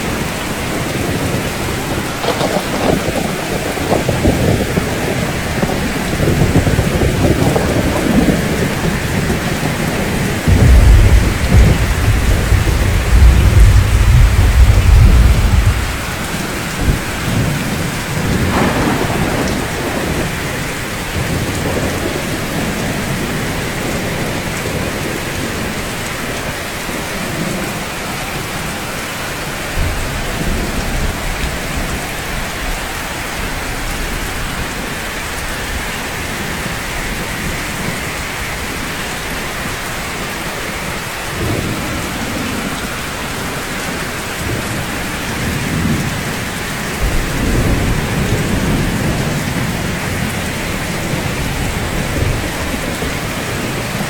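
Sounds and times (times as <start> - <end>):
thunder rumbling: 0.0 - 27.7, 29.7 - 54.0
steady rainfall: 0.0 - 54.0.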